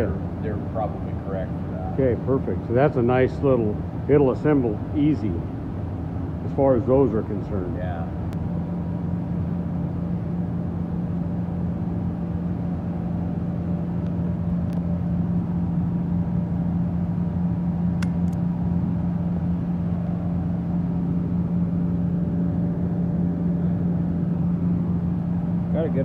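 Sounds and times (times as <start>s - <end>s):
shop machinery humming: 0.0s - 26.0s.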